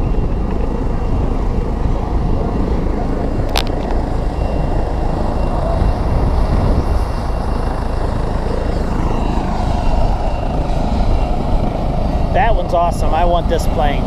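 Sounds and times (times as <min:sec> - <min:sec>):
faint whine falling in pitch: 0:00.0 - 0:14.0.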